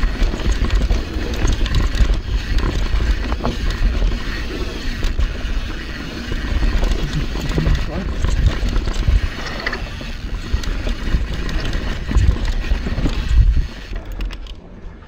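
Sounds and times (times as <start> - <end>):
bike rattles and clicks: 0.0 - 15.0
wind buffeting microphone: 0.0 - 15.0.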